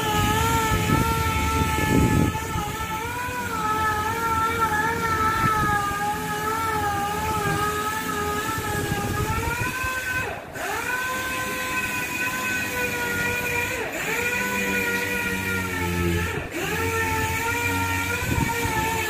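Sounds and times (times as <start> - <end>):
machine whine: 0.0 - 19.0.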